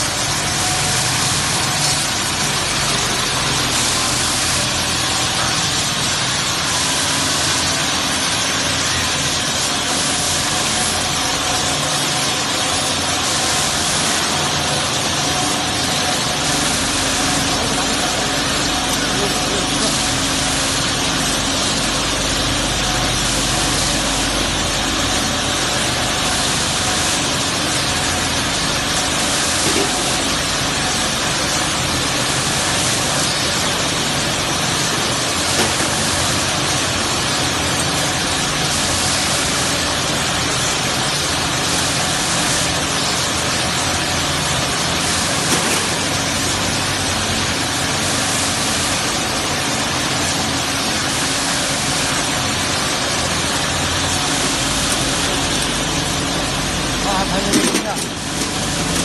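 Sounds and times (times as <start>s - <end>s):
faint machine hum: 0.0s - 59.0s
polishing machine rushing noise: 0.0s - 59.0s.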